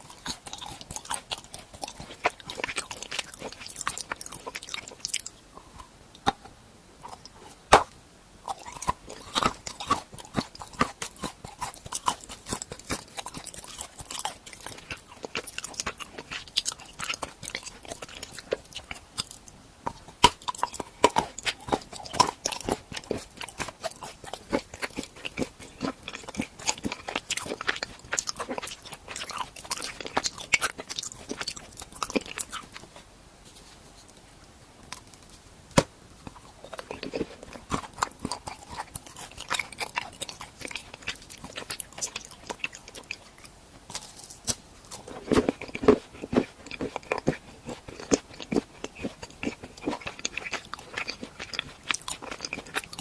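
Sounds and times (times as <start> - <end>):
chewing crunchy food: 0.0 - 53.0.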